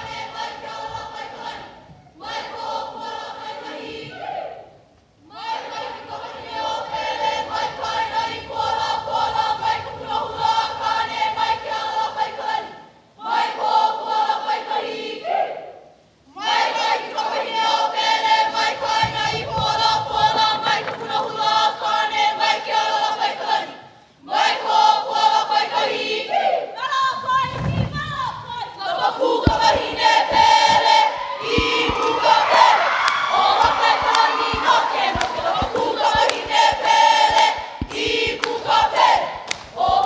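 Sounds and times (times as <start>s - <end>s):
group chanting in unison: 0.0s - 40.0s.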